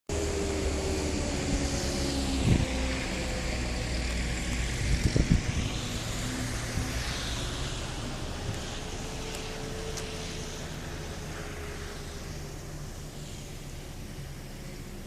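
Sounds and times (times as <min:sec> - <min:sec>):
vehicle engine running: 0:00.1 - 0:15.0
light rain hissing: 0:00.3 - 0:15.0.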